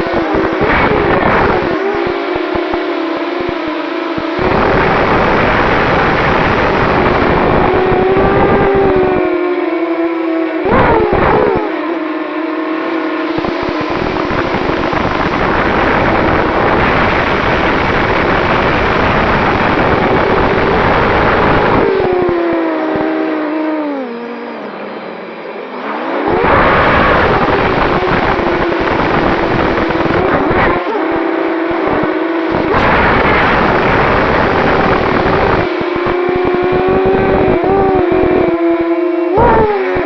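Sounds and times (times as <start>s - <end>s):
quadcopter motors whining: 0.0s - 40.0s.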